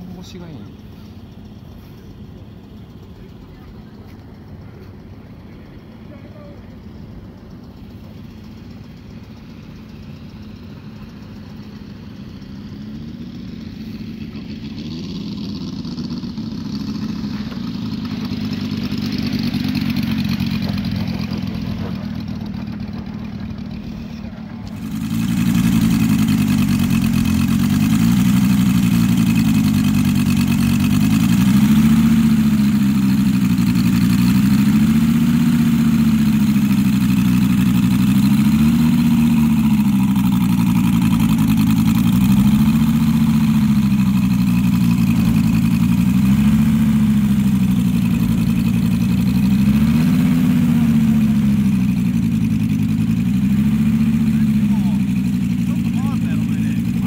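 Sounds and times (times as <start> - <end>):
model plane engine running: 0.0 - 57.0
model plane engine taxiing away: 0.0 - 57.0.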